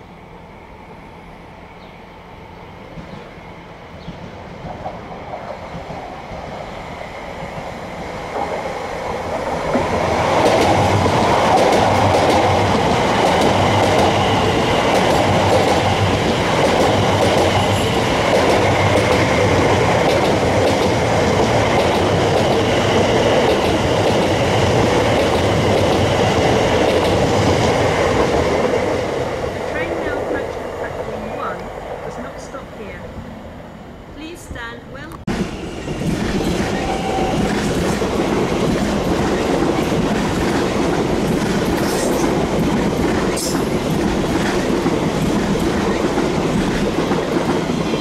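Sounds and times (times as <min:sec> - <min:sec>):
train passing on rails: 0:00.0 - 0:48.0.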